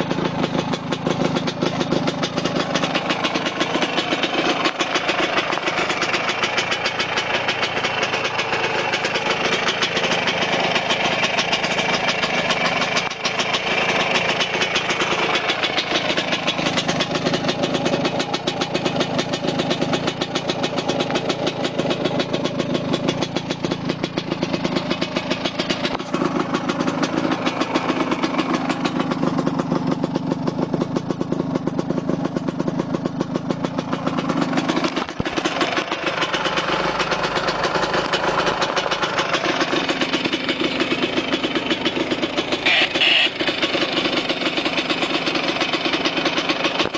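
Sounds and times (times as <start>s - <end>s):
moped engine idling: 0.0s - 46.9s.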